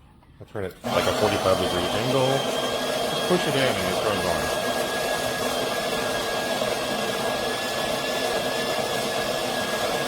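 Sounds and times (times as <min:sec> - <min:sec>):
coffee grinder grinding beans: 0:00.8 - 0:10.0.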